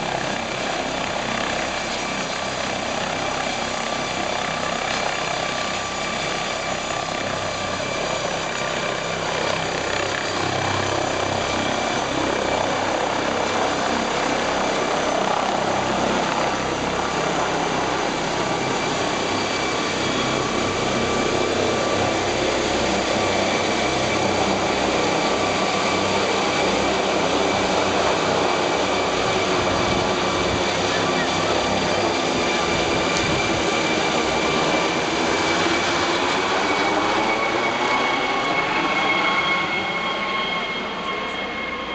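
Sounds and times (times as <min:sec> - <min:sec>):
helicopter rotor noise: 0:00.0 - 0:41.9
helicopter turbine whine: 0:00.0 - 0:41.9.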